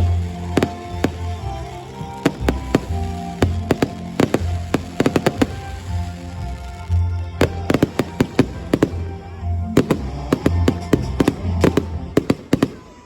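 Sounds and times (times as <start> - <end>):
fireworks bangs and crackles: 0.0 - 13.0
loud music: 0.0 - 13.0.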